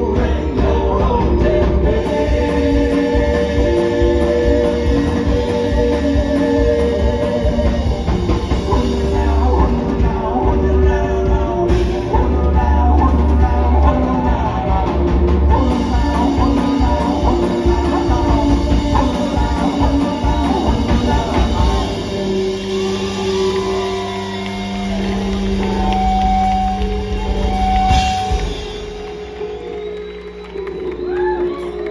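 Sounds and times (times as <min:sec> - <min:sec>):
person singing: 0:00.0 - 0:28.6
drum kit: 0:00.0 - 0:30.5
live band playing: 0:00.0 - 0:31.9.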